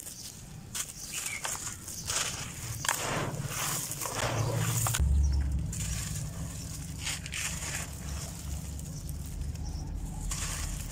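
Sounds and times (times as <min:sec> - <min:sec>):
hands crumbling dry sand: 0:00.0 - 0:05.0, 0:05.6 - 0:10.9.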